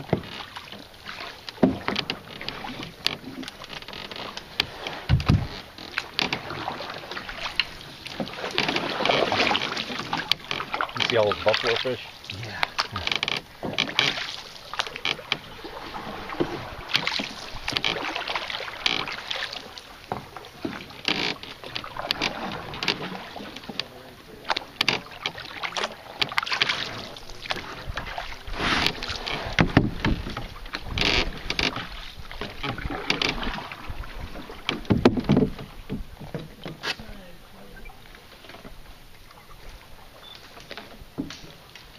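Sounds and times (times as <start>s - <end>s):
knocks and thuds on canoe: 0.0s - 41.9s
paddle splashing in water: 0.0s - 41.9s.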